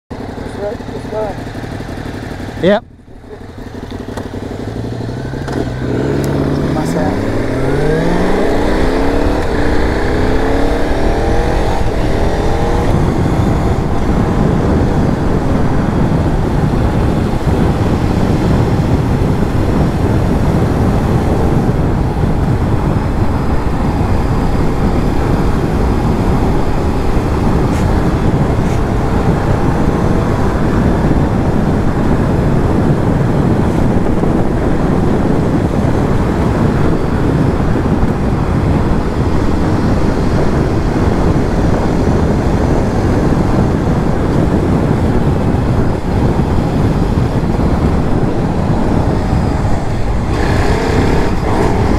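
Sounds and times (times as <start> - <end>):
motorcycle engine accelerating: 0.1 - 51.9
wind on microphone: 0.1 - 51.9.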